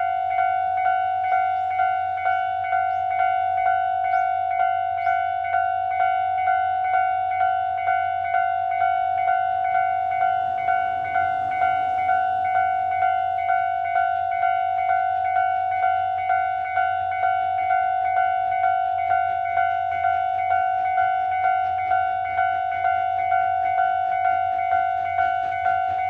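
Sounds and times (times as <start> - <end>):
level crossing bell clanging: 0.0 - 26.0.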